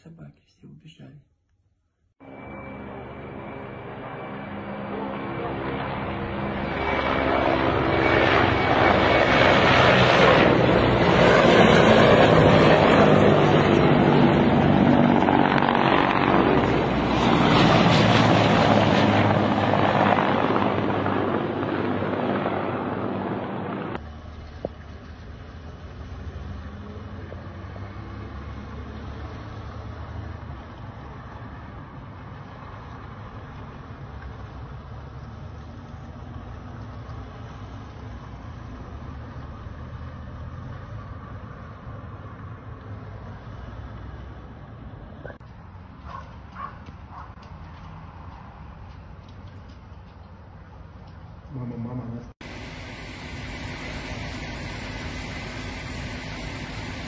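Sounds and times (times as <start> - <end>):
helicopter rotors roaring: 2.2 - 57.0.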